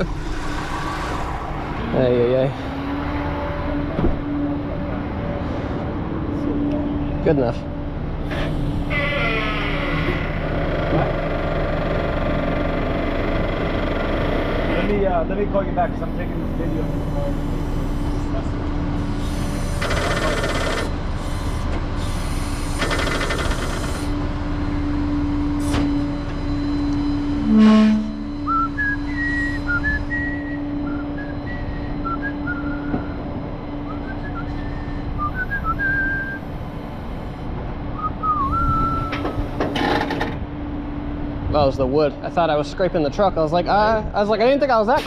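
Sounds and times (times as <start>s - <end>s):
truck machinery humming: 0.0s - 41.4s.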